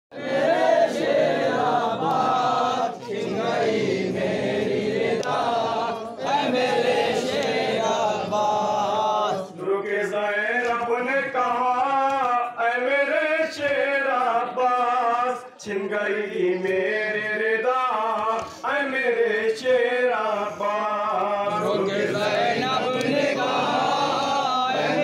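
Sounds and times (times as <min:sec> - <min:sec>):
men chanting a lament in chorus: 0:00.1 - 0:25.0.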